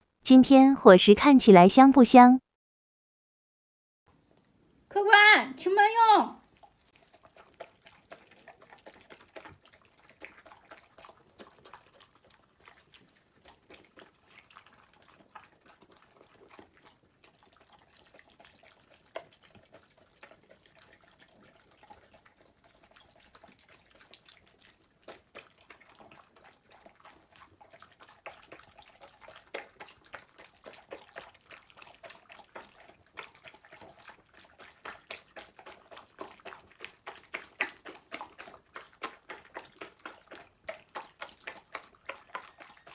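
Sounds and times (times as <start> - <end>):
small animal eating wet smacking: 6.4 - 42.9.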